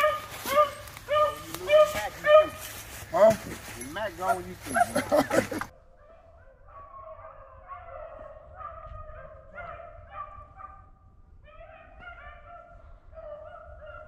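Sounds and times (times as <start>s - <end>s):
hounds baying faintly: 0.0s - 14.0s.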